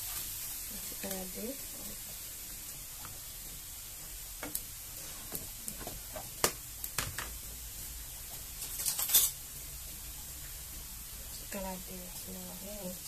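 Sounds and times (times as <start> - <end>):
steady faint hiss: 0.0 - 13.0.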